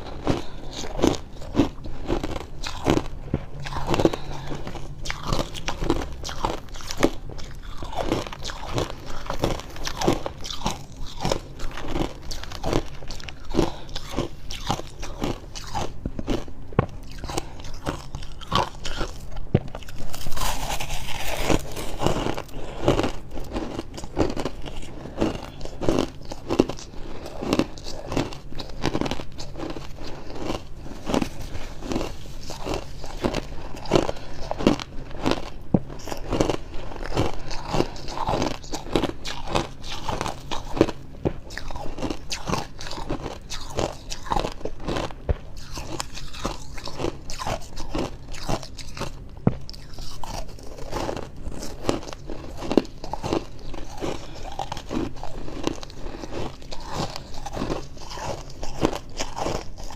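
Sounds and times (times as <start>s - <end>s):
crunching frost while chewing: 0.0s - 59.9s.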